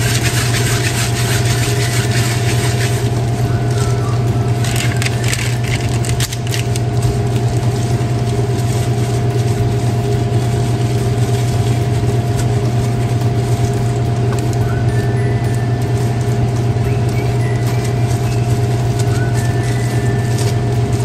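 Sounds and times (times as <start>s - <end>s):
loud machine hum: 0.0s - 21.0s
plastic gloves crinkling: 0.0s - 21.0s
thin steady whine: 0.0s - 21.0s.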